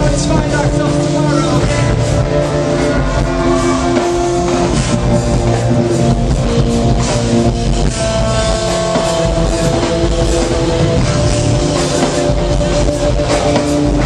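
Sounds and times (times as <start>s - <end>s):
drum kit: 0.0s - 14.0s
electric guitar chords: 0.0s - 14.0s.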